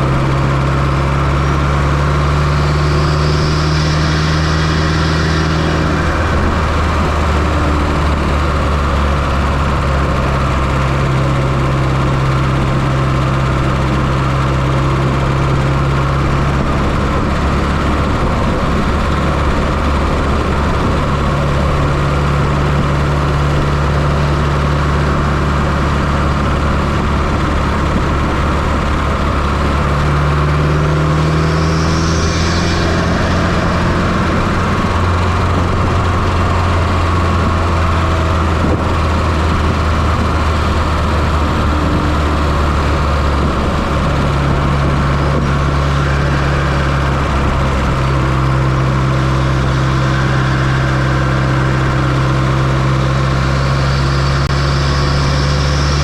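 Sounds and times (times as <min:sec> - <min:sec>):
car engine running close up: 0:00.0 - 0:56.0.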